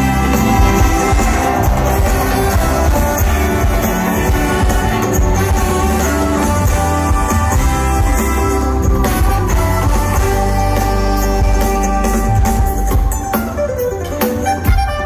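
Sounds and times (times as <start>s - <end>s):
bass: 0.0s - 15.0s
drums: 0.0s - 15.0s
guitar: 0.0s - 15.0s.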